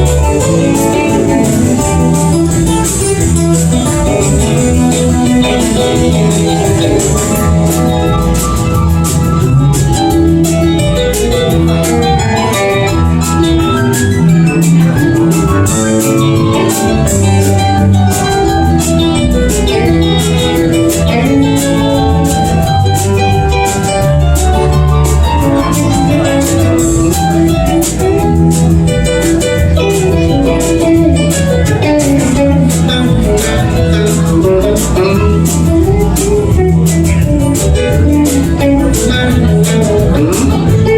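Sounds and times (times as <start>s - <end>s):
bass guitar: 0.0s - 40.9s
drums with cymbals: 0.0s - 40.9s
guitar lines: 0.0s - 40.9s.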